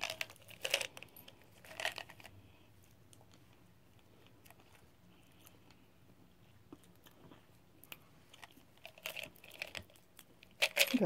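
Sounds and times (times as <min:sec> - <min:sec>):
chewing hard candy: 0:00.0 - 0:05.8, 0:06.6 - 0:11.0.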